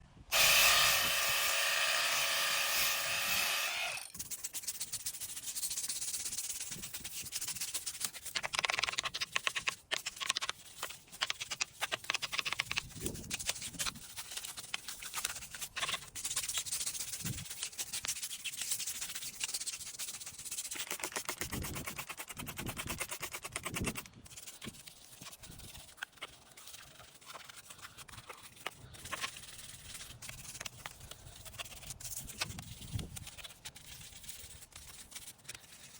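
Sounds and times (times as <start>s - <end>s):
brush scrubbing: 2.6s - 35.9s.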